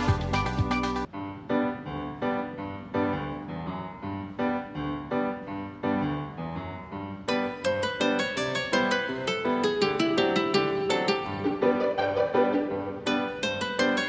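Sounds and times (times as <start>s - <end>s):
fuller music passage: 0.0s - 14.0s
gentle piano-like keyboard melody: 0.0s - 14.0s.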